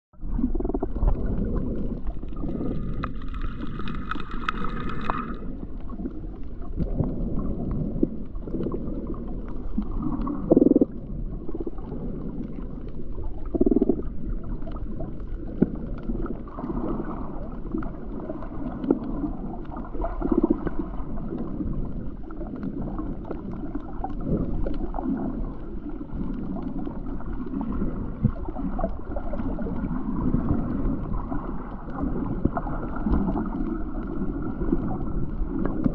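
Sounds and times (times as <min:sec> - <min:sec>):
underwater sloshing rumble: 0:00.1 - 0:35.9.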